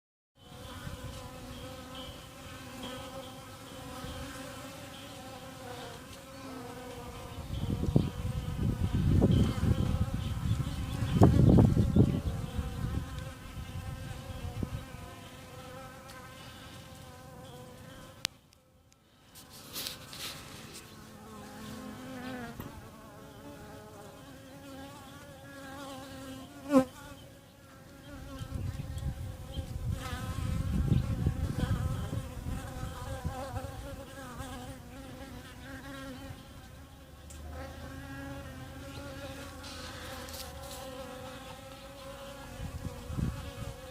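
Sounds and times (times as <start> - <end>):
bees buzzing: 0.4 - 43.9.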